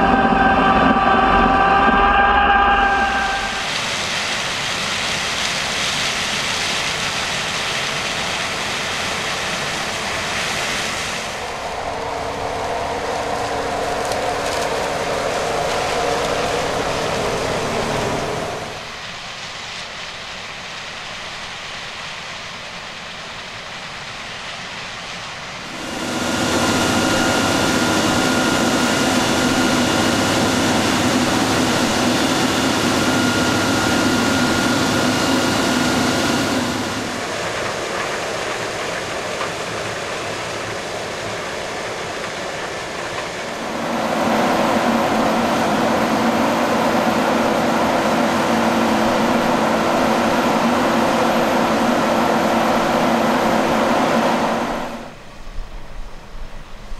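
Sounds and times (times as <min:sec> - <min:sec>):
agricultural machinery engines running: 0:00.0 - 0:19.8, 0:23.3 - 0:55.3.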